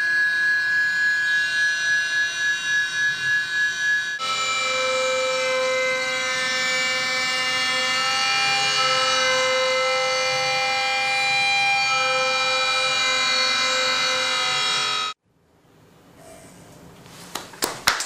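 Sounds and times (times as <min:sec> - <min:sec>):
dense droning chord: 0:00.0 - 0:15.2.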